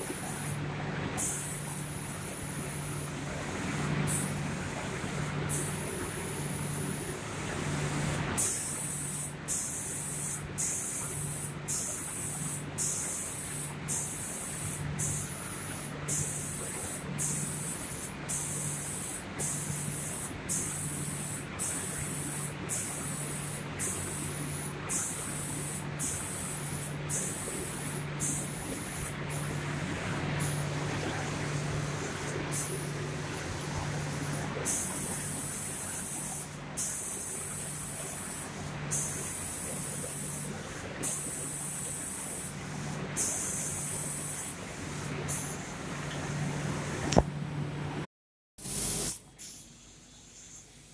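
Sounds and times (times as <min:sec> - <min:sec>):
spray guns hissing in bursts: 0:00.0 - 0:47.2, 0:48.6 - 0:50.9.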